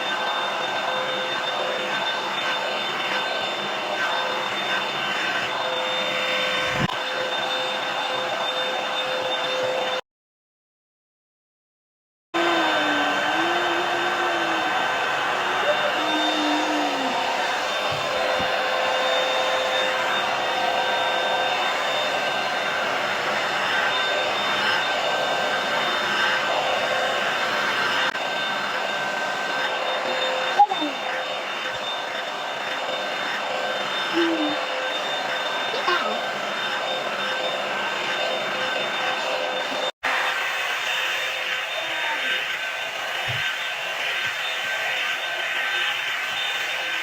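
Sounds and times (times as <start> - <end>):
hair dryer running: 0.0 - 10.0, 12.4 - 47.0.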